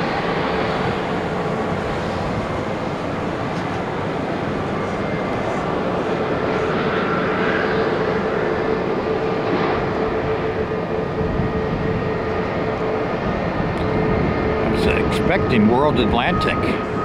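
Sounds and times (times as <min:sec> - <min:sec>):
jet engines roaring and whining: 0:00.0 - 0:17.0.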